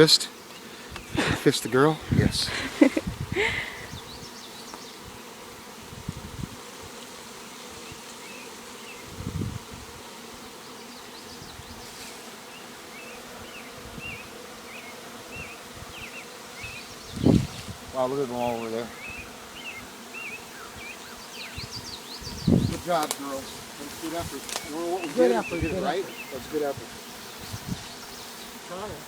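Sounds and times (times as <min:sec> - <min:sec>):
bees humming: 0:00.0 - 0:29.0.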